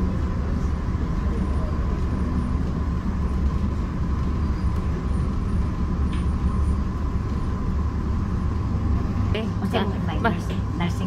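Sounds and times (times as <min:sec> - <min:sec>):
steady whine: 0:00.0 - 0:11.0
train rumble from inside carriage: 0:00.0 - 0:11.0.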